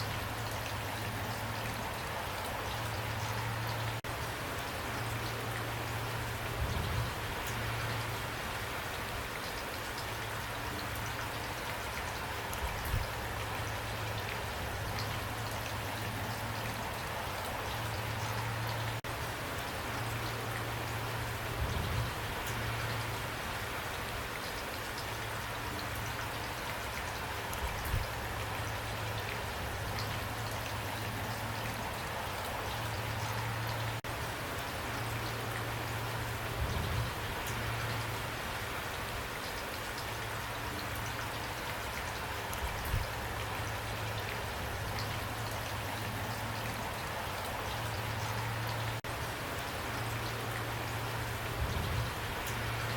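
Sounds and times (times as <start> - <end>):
steady rain patter: 0.0 - 52.9.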